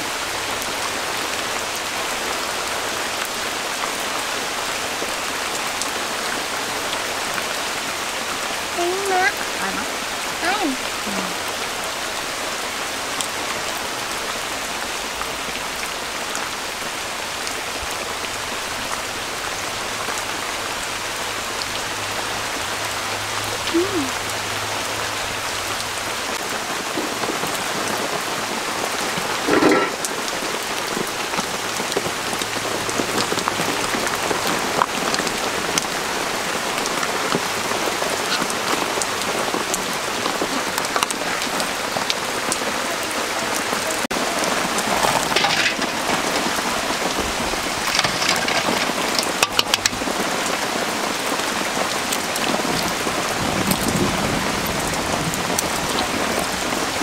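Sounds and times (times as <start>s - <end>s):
rain on thatched roof: 0.0s - 57.0s.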